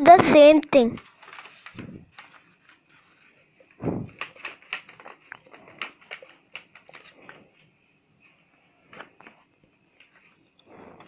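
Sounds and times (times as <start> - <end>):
paper crackling: 0.0 - 7.7, 8.8 - 10.3.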